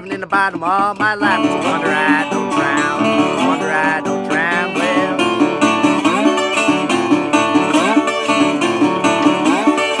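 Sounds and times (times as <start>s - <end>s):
fingerpicked slide resonator guitar: 0.0s - 10.0s.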